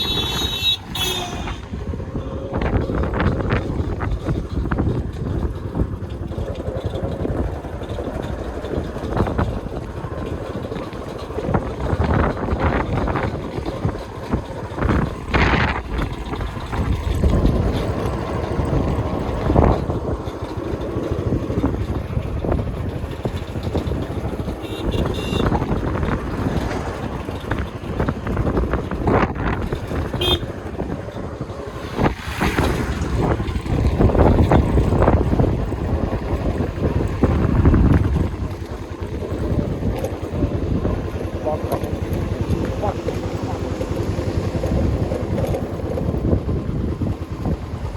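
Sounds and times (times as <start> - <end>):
vehicle rumble on road: 0.0 - 47.9
wind buffeting microphone: 0.0 - 47.9.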